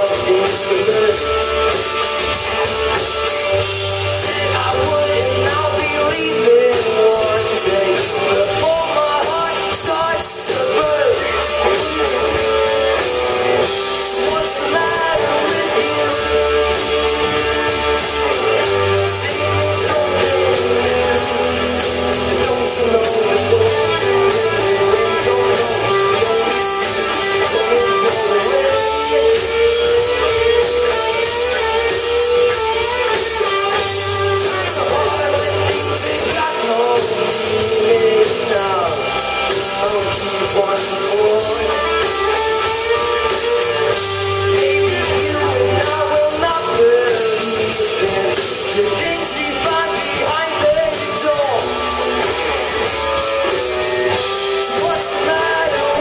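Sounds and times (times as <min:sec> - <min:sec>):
bass guitar: 0:00.0 - 0:56.0
drums: 0:00.0 - 0:56.0
electric guitars: 0:00.0 - 0:56.0
keyboard: 0:00.0 - 0:56.0
person singing: 0:00.0 - 0:56.0.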